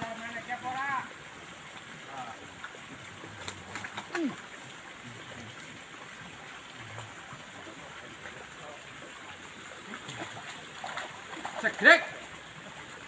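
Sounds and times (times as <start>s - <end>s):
outdoor background hiss: 0.0s - 13.0s
faint low murmurs: 2.0s - 12.7s.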